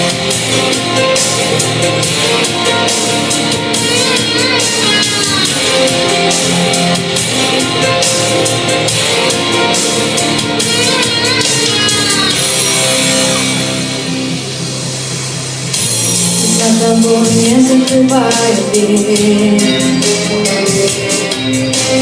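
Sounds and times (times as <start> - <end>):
drum kit with cymbal beats: 0.0 - 22.0
guitar: 0.0 - 22.0.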